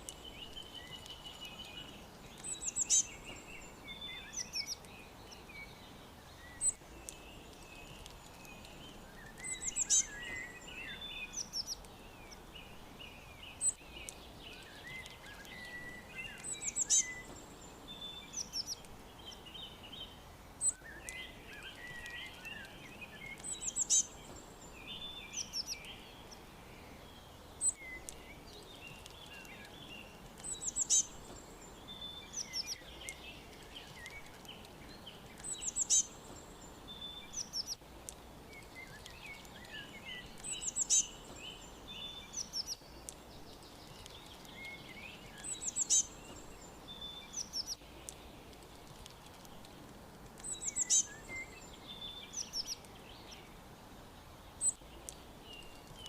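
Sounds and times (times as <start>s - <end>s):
outdoor background hiss: 0.0s - 56.0s
wild birds chirping and singing: 0.0s - 56.0s.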